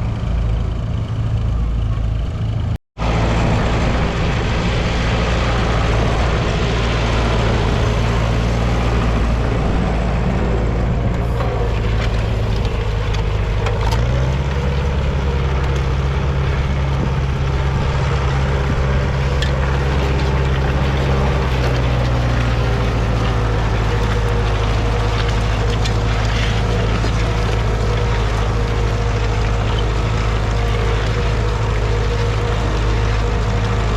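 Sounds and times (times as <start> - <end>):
engine running: 0.0 - 33.9.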